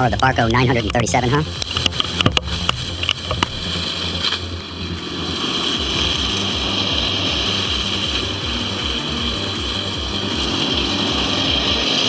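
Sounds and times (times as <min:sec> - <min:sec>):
heavy machinery engine whining: 0:00.0 - 0:12.0.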